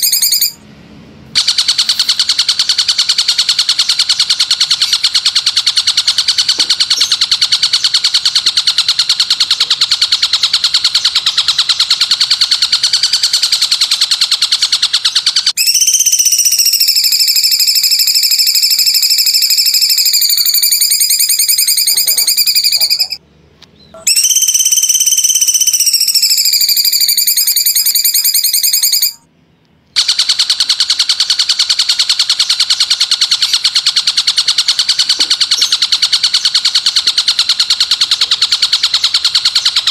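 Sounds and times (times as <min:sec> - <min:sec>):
recorded songbird trill: 0:00.0 - 0:00.6, 0:01.4 - 0:39.9.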